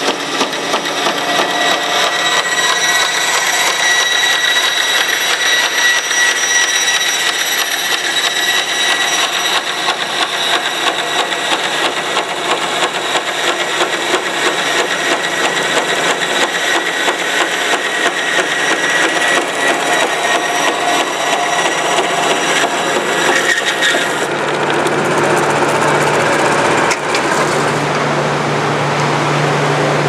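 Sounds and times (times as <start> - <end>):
bandsaw whine: 0.0 - 29.7.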